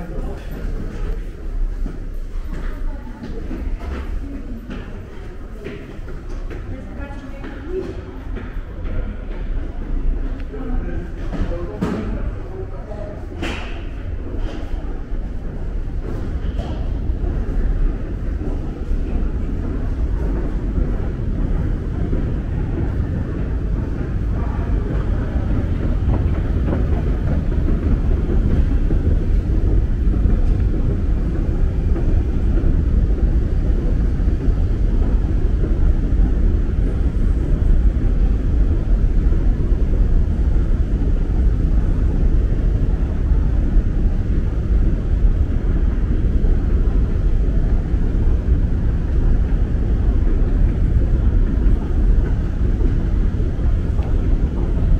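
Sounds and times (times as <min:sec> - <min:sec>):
escalator machinery rumble: 0:00.0 - 0:54.9
station ventilation: 0:00.0 - 0:54.9.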